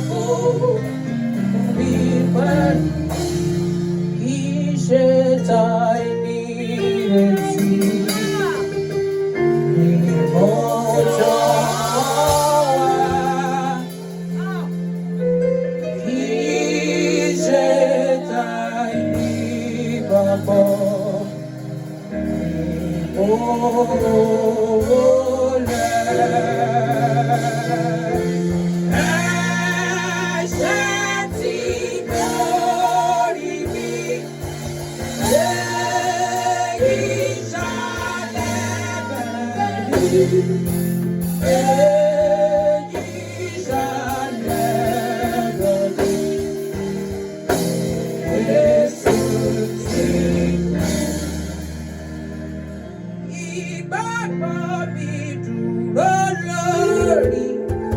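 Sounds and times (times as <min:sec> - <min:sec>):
keyboard chords and bass: 0:00.0 - 0:57.9
person singing gospel: 0:00.0 - 0:57.9.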